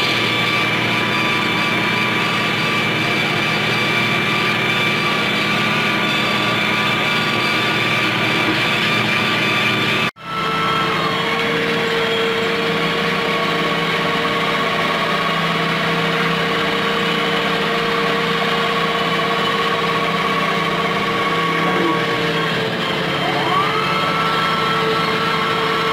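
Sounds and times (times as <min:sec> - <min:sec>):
steady whine: 0:00.0 - 0:25.9
tractor diesel engine running: 0:00.0 - 0:25.9.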